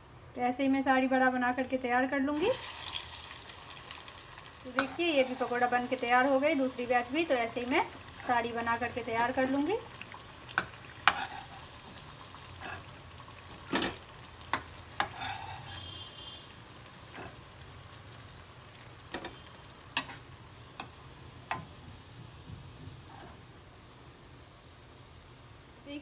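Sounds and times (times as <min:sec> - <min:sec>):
food frying in hot oil: 0:02.3 - 0:26.0.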